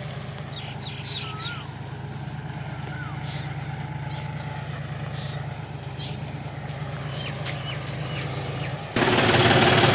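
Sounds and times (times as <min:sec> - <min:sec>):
tractor diesel engine running: 0:00.0 - 0:09.9
birds chirping: 0:00.2 - 0:09.9.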